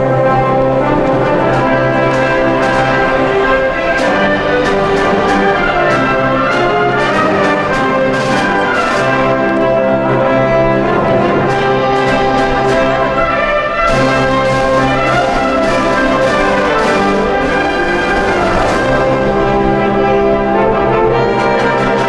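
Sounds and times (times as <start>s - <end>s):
orchestral music led by brass: 0.0s - 22.0s.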